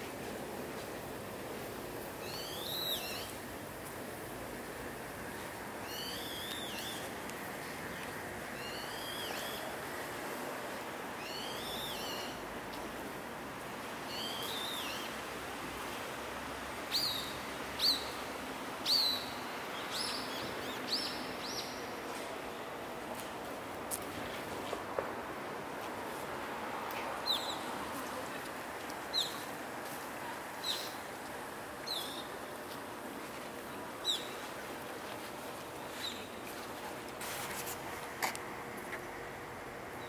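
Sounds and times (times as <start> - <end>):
background hiss: 0.0 - 40.0.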